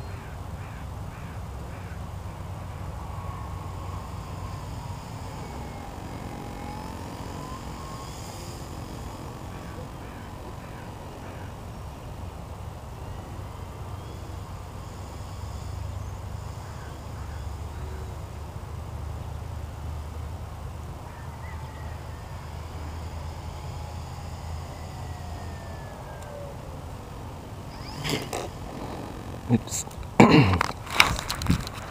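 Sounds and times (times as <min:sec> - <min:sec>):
faint bird calls: 0:00.0 - 0:18.6, 0:21.0 - 0:30.0
rc plane motor whining: 0:01.3 - 0:31.9.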